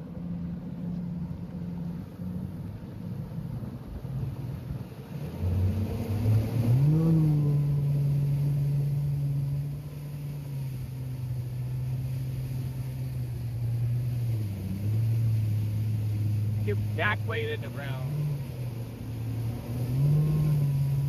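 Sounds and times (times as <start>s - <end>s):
outboard engine accelerating: 0.0s - 21.0s.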